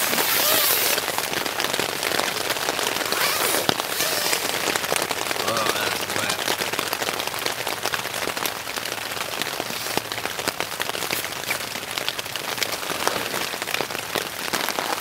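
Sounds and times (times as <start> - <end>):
heavy rain on tent fabric: 0.0 - 15.0.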